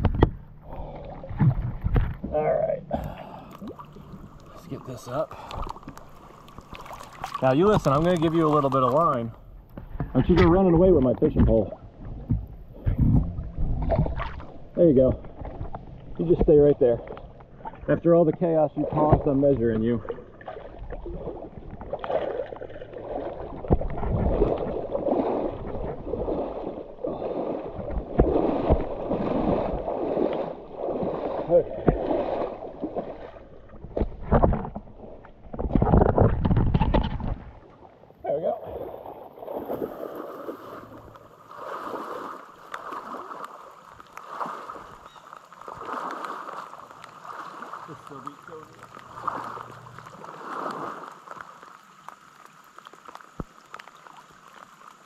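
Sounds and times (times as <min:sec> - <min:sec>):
water sloshing and splashing: 0:00.0 - 0:55.0.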